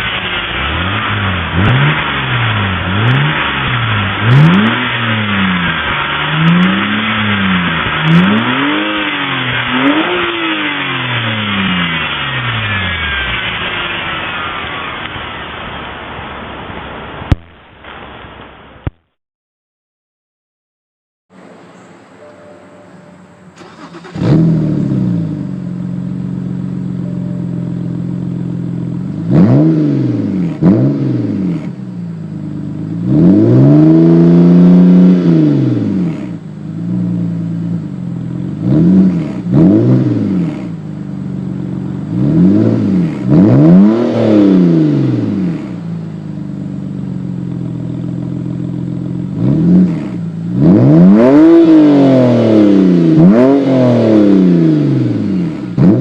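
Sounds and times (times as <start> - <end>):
car engine starting and revving: 0.0 - 17.4, 23.2 - 56.0.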